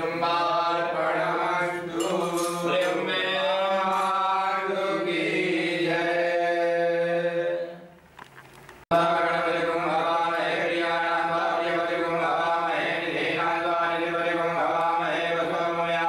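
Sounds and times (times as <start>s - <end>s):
men chanting mantras: 0.0s - 7.9s, 8.9s - 16.0s.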